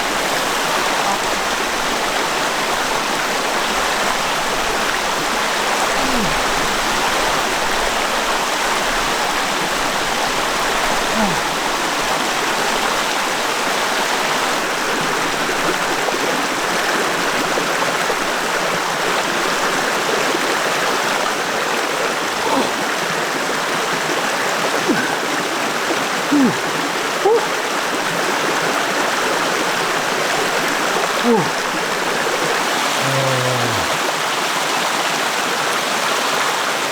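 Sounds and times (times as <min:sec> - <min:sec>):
water gurgling: 0:00.0 - 0:35.4
stream running over rocks: 0:00.0 - 0:36.9.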